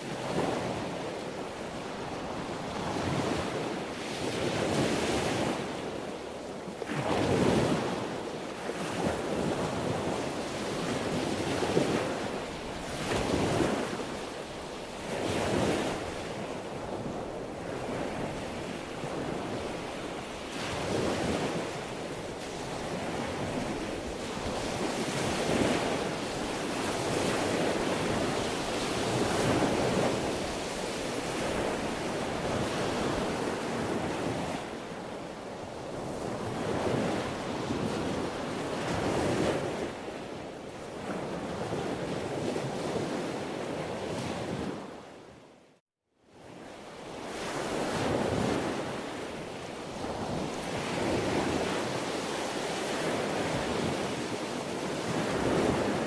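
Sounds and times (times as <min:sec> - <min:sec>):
sea waves breaking on shore: 0:00.0 - 0:45.5, 0:46.3 - 0:56.0.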